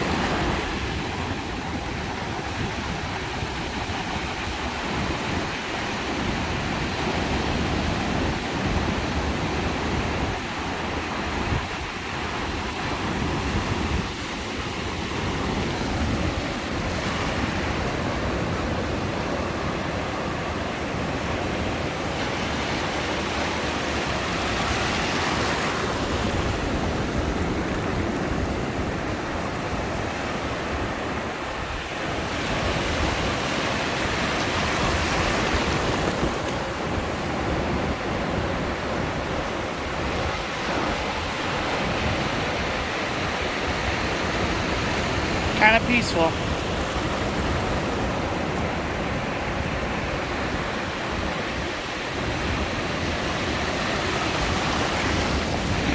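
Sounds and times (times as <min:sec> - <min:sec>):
ocean waves breaking on beach: 0:00.0 - 0:55.9.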